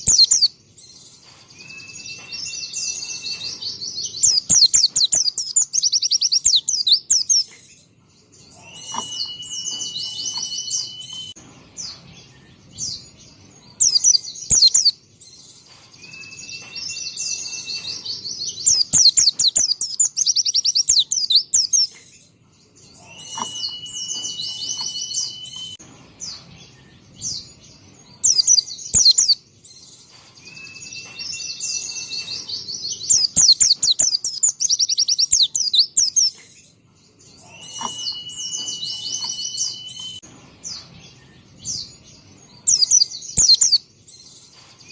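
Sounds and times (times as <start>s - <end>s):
bird twittering trills: 0.0s - 44.9s.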